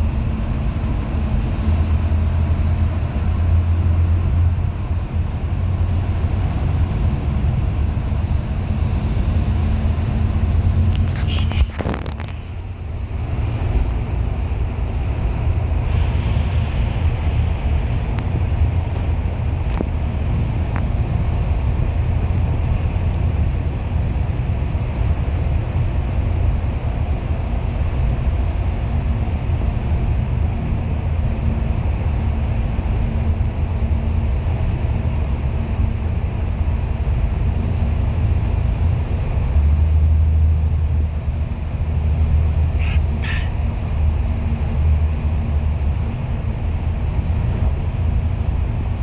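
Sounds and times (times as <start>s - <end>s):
bus engine and road noise: 0.0s - 49.0s
faint steady hum: 0.0s - 49.0s.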